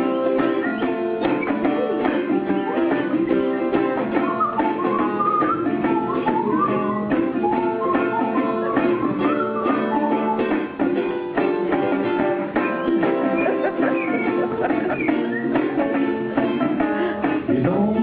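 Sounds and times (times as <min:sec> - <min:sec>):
sliding melody line: 0:00.0 - 0:18.0
ukulele strumming: 0:00.0 - 0:18.0.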